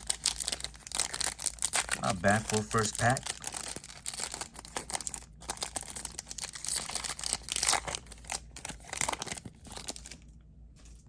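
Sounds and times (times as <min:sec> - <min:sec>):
wrapper tearing and crinkling: 0:00.0 - 0:11.0.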